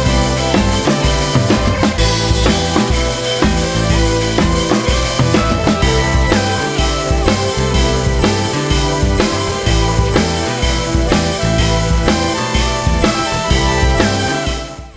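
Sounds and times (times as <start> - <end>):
drum-kit beat: 0.0 - 14.9
rock music: 0.0 - 14.9.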